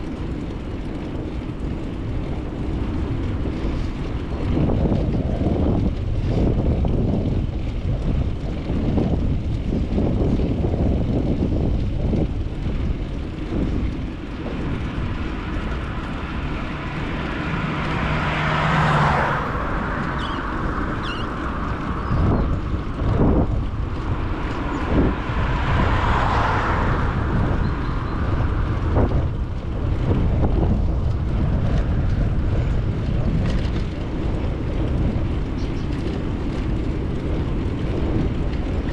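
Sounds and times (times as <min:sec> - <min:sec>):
road rumble: 0:00.0 - 0:38.9
wind rumbling on microphone: 0:00.0 - 0:38.9.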